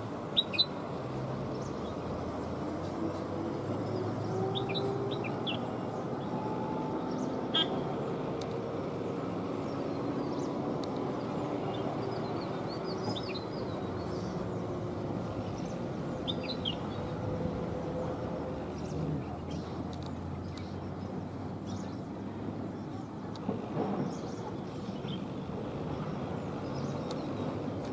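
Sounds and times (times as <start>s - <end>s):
birds chirping: 0.3s - 23.1s.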